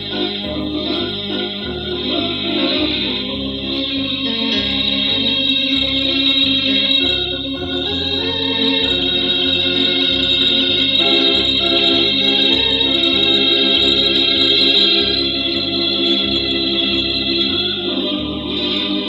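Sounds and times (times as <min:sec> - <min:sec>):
organ chords over bass line: 0:00.0 - 0:19.0.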